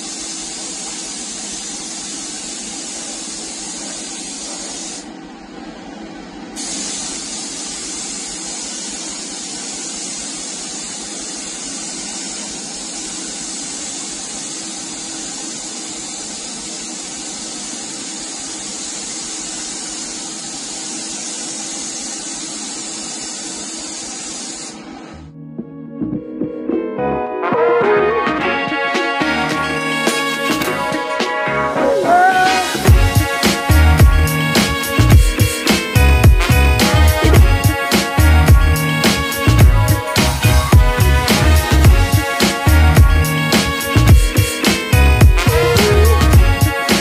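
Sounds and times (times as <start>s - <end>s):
air spray gun hissing: 0.0s - 5.2s, 6.5s - 25.1s, 32.4s - 47.0s.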